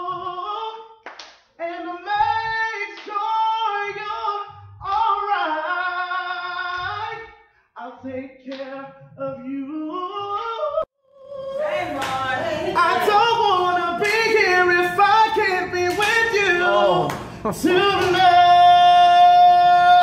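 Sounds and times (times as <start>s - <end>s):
man singing unaccompanied: 1.6s - 20.0s.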